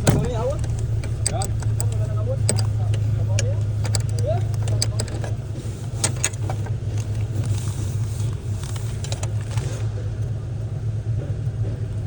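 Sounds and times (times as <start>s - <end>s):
light clicks: 0.0s - 10.0s
car engine running: 0.0s - 12.0s.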